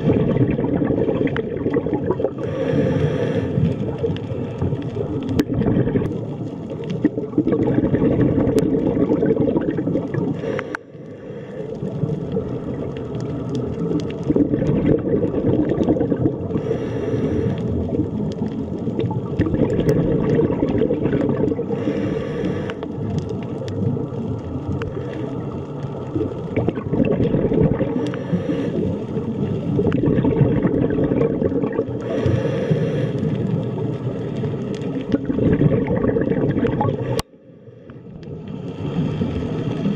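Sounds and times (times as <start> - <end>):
underwater rumble with gurgling: 0.0 - 39.9.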